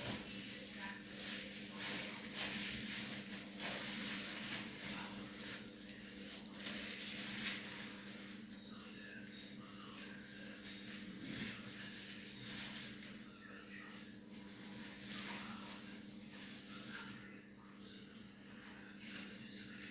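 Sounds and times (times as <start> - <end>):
low electrical hum: 0.0 - 19.9
rustling and brushing: 0.0 - 19.9.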